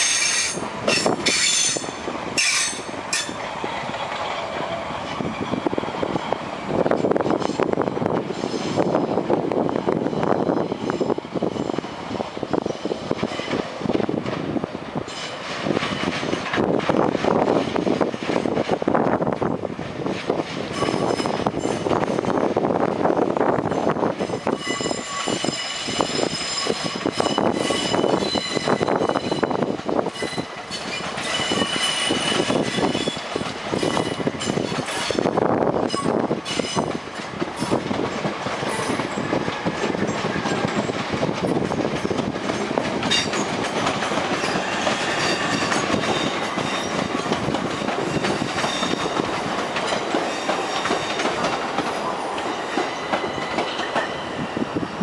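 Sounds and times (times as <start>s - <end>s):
train wheels clicking over rail joints: 0.0s - 54.6s.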